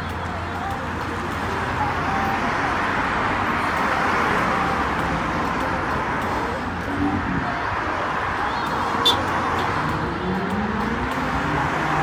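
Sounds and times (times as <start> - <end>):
passing vehicle: 0.0 - 12.0.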